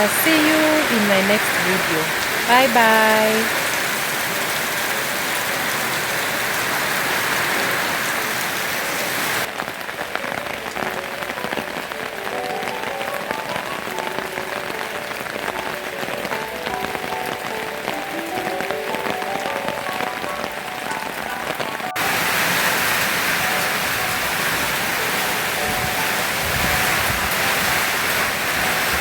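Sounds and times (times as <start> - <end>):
heavy rain hissing: 0.0 - 29.0
light rain: 0.0 - 29.0.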